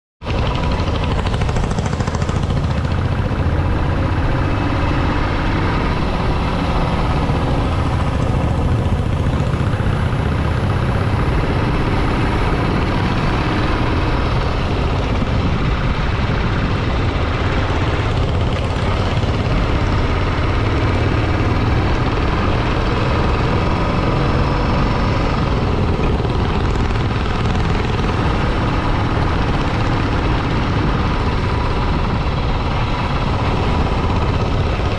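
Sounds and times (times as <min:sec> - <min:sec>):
constant rushing noise: 0:00.2 - 0:34.9
motorcycle engine running: 0:00.2 - 0:34.9.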